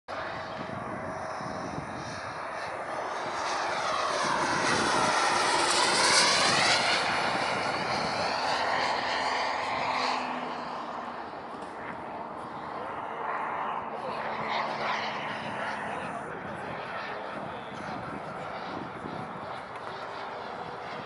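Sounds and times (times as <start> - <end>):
model jet passing: 0.1 - 21.0.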